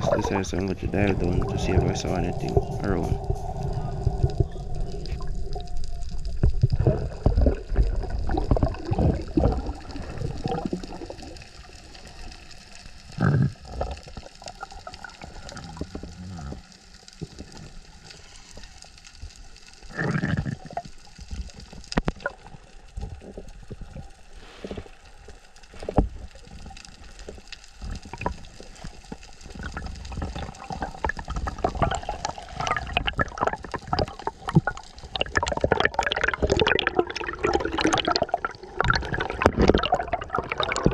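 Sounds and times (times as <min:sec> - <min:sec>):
underwater rushing and gurgling: 0:00.0 - 0:40.9.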